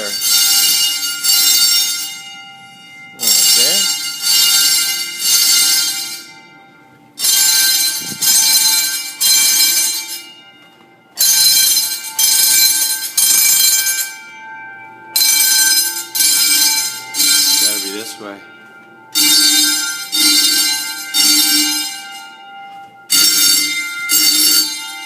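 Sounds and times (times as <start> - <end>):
fire alarm bells ringing: 0.0 - 25.0.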